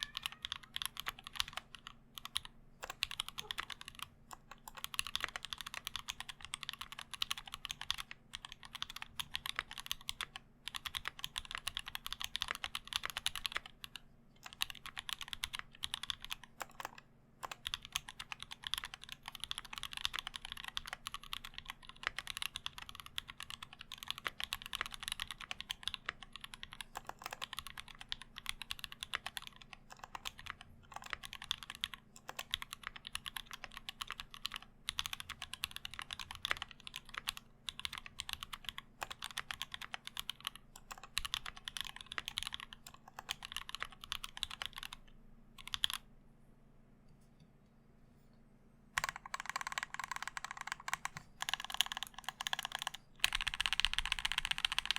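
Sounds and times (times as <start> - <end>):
fast mechanical keyboard typing: 0.0 - 45.0, 45.6 - 46.0, 49.0 - 54.9
faint low hum: 0.0 - 54.9.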